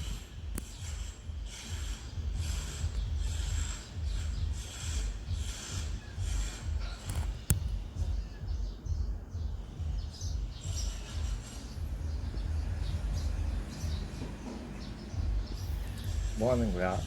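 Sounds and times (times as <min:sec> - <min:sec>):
faint bird chirps: 0:00.0 - 0:17.0
low rumble on microphone: 0:00.0 - 0:17.0.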